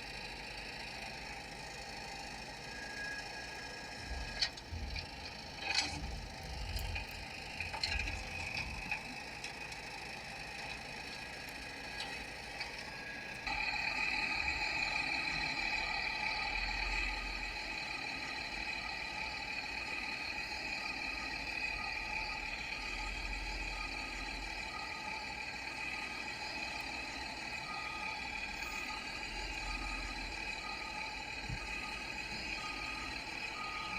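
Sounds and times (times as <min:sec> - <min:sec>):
excavator engine whining: 0:00.0 - 0:33.9.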